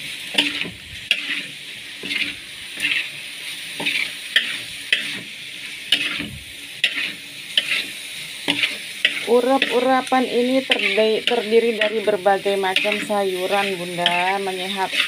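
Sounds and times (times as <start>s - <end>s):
metal spatula scraping a wok: 0.3s - 15.0s.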